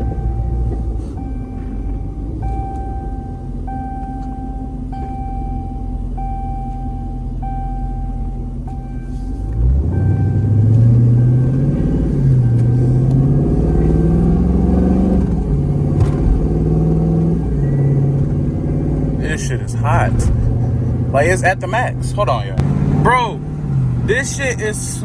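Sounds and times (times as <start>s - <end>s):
car engine accelerating: 0.0s - 25.0s
dashboard warning chime: 0.0s - 25.0s.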